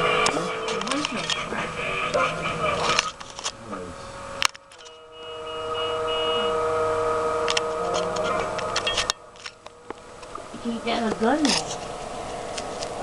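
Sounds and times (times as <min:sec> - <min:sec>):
electronic drone: 0:00.0 - 0:13.0.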